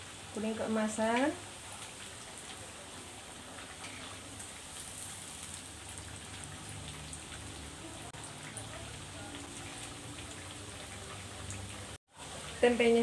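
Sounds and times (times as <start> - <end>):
oil sizzling with crackles: 0.0 - 13.0.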